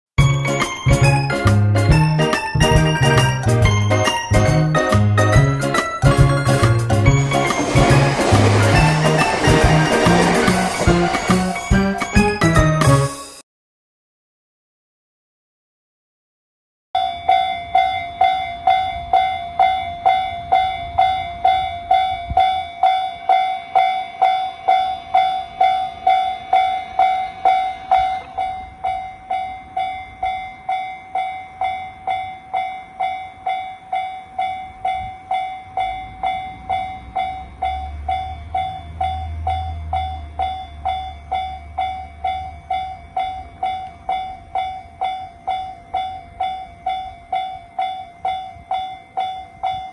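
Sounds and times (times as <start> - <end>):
passing train rumble: 0.2 - 13.0, 17.7 - 49.9
level-crossing warning bell: 0.2 - 13.3, 17.0 - 49.9.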